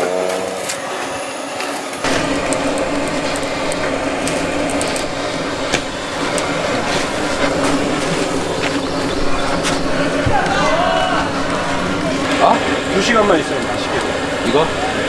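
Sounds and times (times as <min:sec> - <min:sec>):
mechanical hum with low drone: 0:00.0 - 0:15.0
torch flame hissing: 0:00.6 - 0:15.0.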